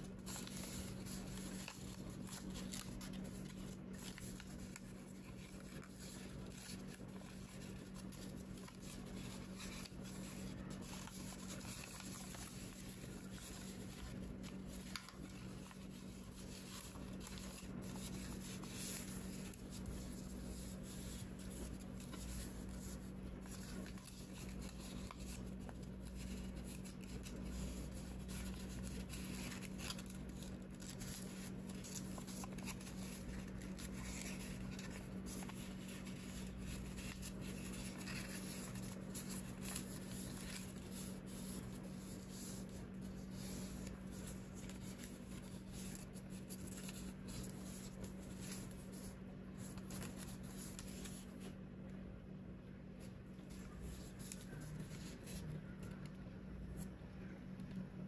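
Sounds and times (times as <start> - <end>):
paper rustling and crinkling: 0.0 - 51.6, 53.0 - 57.0
steady low hum: 0.0 - 58.0.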